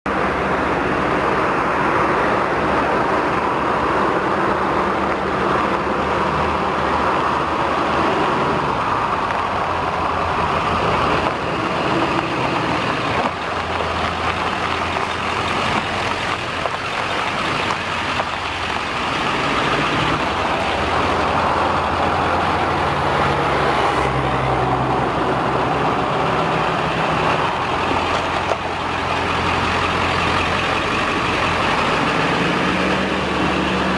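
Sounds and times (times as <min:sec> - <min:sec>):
truck engine running: 0:00.1 - 0:33.9.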